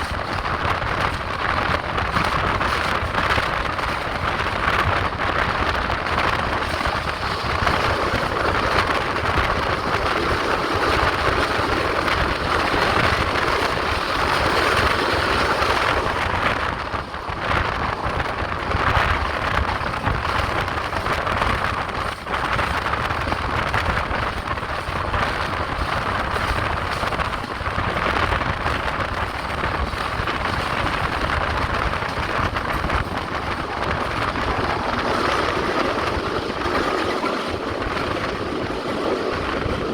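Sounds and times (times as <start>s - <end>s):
wheels on rails: 0.0s - 39.9s
wind noise on moving train: 0.0s - 39.9s.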